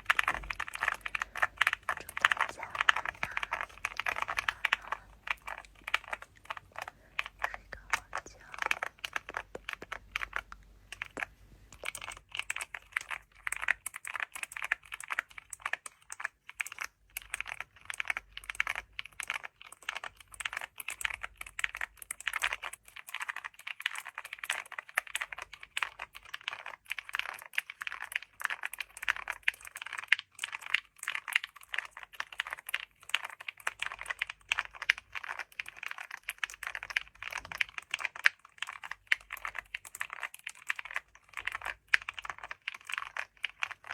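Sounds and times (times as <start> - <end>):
fast typing on computer keyboard: 0.0 - 43.9.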